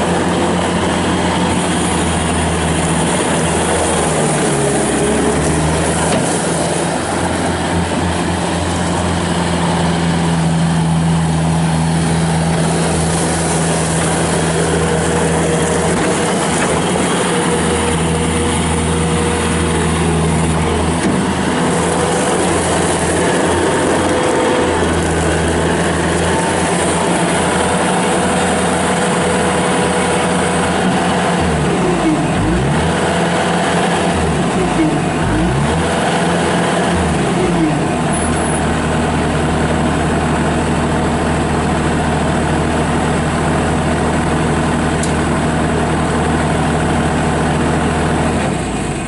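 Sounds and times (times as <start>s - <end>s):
diesel engine drone: 0.0s - 49.0s.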